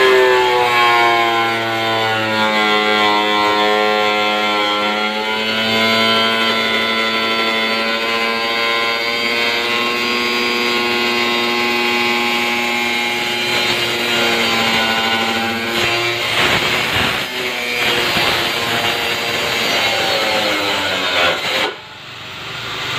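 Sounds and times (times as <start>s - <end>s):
angle grinder cutting plastic: 0.0s - 22.0s.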